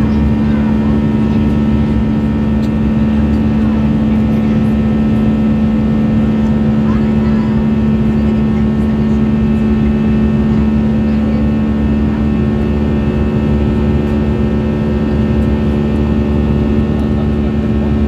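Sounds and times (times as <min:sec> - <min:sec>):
jet engines droning in cabin: 0:00.0 - 0:18.0.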